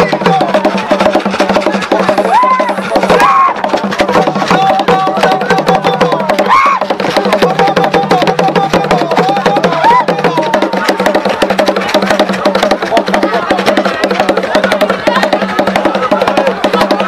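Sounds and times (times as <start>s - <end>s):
fast dance drumming: 0.0s - 17.0s.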